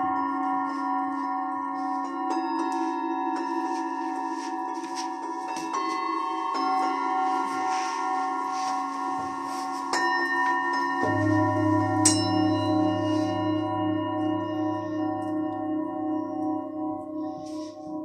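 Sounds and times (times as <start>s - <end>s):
large bowl deep wavering tone: 0.0s - 18.0s
singing bowls ringing: 0.0s - 18.0s.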